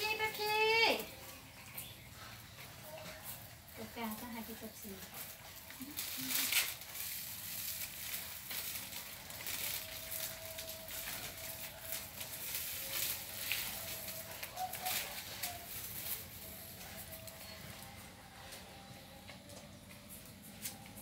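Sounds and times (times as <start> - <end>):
dogs chewing and crunching: 0.1 - 21.0.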